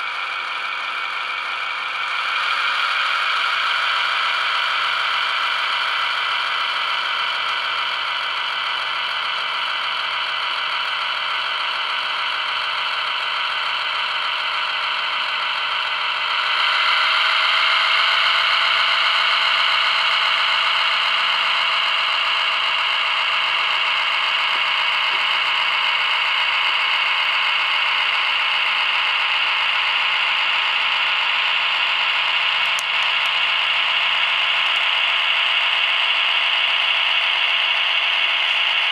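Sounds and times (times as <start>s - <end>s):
model train motor whirring: 0.0s - 38.9s.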